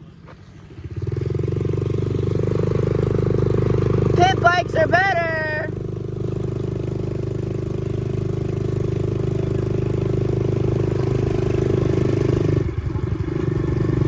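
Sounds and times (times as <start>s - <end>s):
dirt bike engine running: 0.4s - 14.0s.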